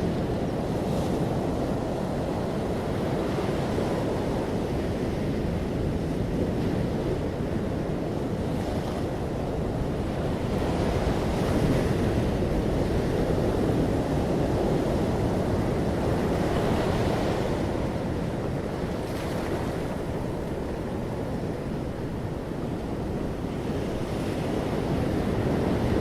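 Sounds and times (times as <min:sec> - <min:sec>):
sea waves washing onto shore: 0:00.0 - 0:26.0.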